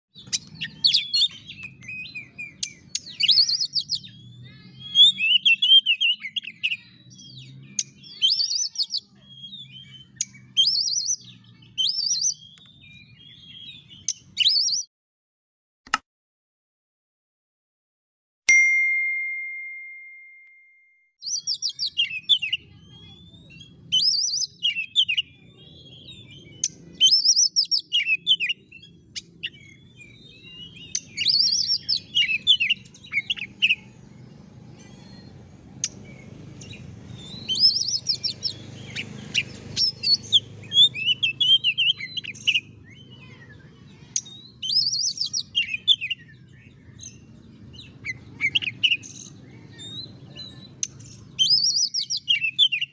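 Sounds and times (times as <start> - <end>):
bird singing whistled trills: 0.2 - 14.9, 19.2 - 33.9, 34.8 - 52.9.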